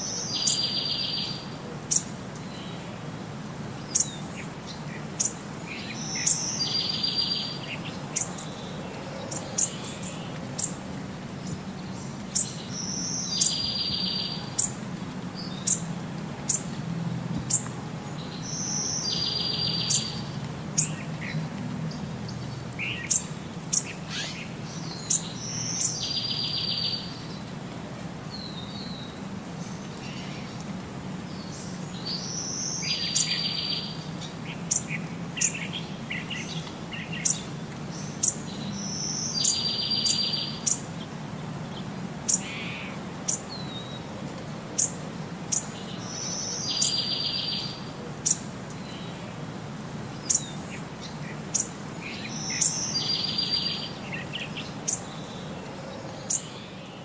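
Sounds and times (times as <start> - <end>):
birds chirping: 0.0 - 27.5, 28.2 - 57.0.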